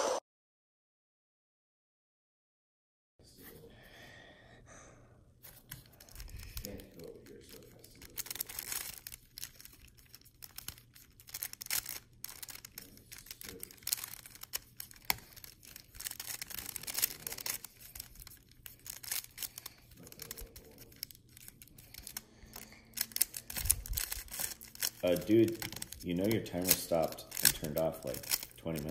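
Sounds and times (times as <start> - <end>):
speed cube clicking as turned: 5.7 - 28.9.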